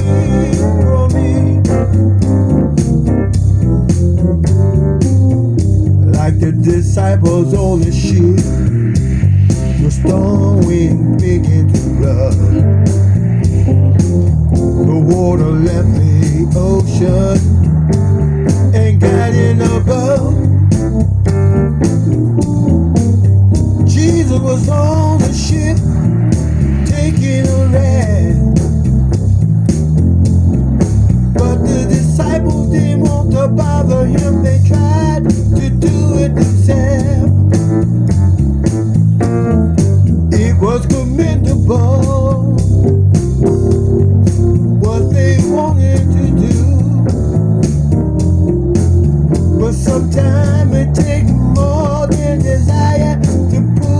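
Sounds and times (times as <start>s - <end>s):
blues guitar music: 0.0s - 53.9s.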